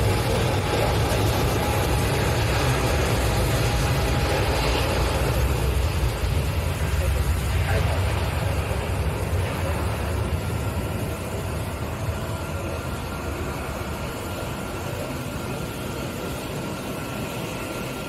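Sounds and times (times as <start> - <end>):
jet engines idling: 0.0 - 18.0.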